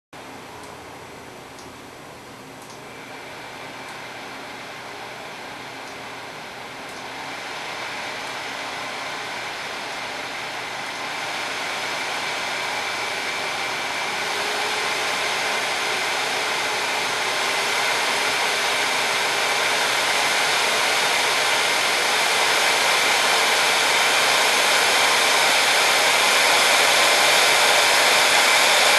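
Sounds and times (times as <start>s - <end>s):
cooling fan whooshing and whining: 0.2s - 28.9s.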